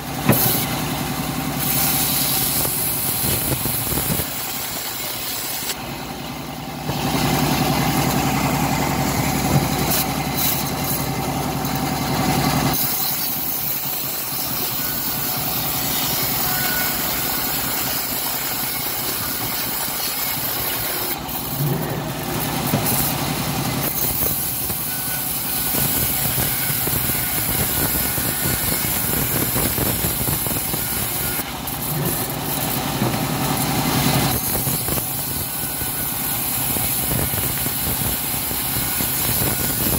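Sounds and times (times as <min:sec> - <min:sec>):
bandsaw mill cutting wood: 0:00.0 - 0:39.9.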